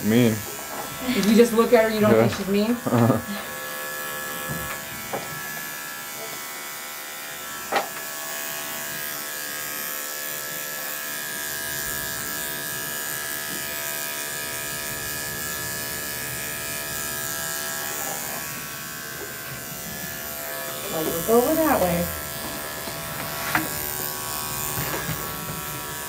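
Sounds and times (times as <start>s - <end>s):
electric clippers running: 0.0s - 26.0s.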